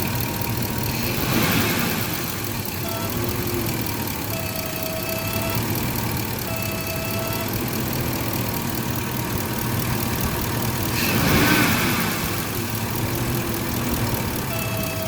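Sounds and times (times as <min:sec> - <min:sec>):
car engine idling: 0:00.0 - 0:15.0
horn-like engine tone: 0:01.0 - 0:09.5, 0:11.1 - 0:15.0.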